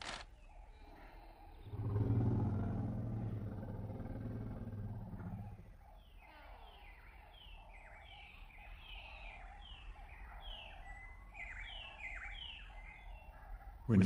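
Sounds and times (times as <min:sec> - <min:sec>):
chorus of calling animals: 0:00.0 - 0:14.0.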